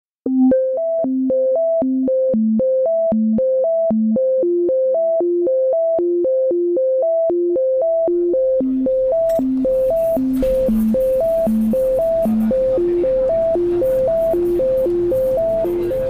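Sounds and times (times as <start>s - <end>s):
synthesizer arpeggio: 0.2s - 16.0s
low pulse: 2.9s - 16.0s.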